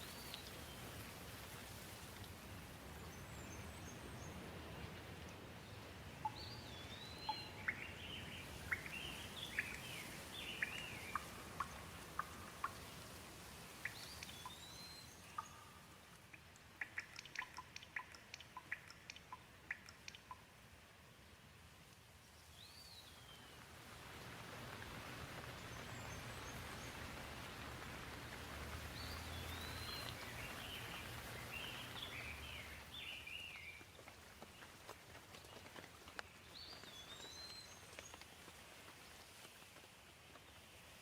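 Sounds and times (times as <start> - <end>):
light rain hissing: 0.0 - 41.0.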